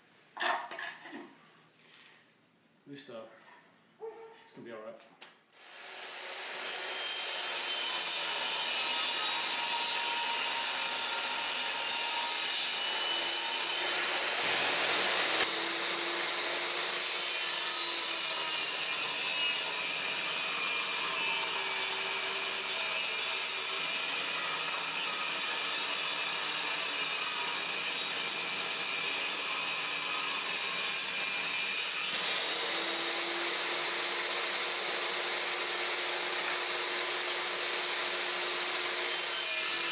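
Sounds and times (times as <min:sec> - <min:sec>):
table saw cutting wood: 0:05.6 - 0:39.9.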